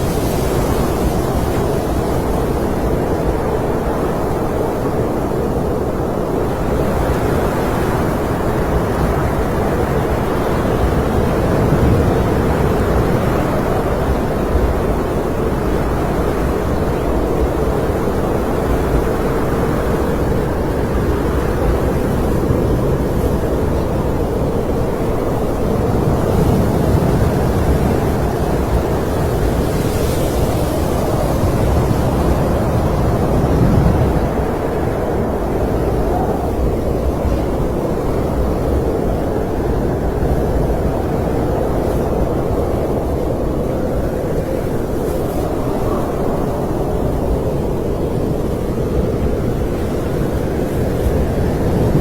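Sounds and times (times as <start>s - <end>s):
snowstorm wind blowing: 0.0s - 52.0s.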